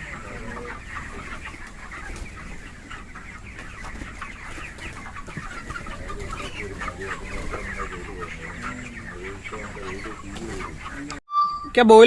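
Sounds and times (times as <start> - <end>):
chickens clucking and cheeping: 0.0 - 11.6.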